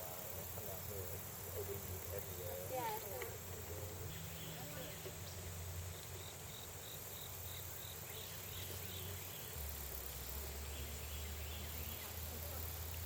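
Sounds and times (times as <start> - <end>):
insects chirping: 0.0 - 13.0
steady high hiss: 0.0 - 13.0.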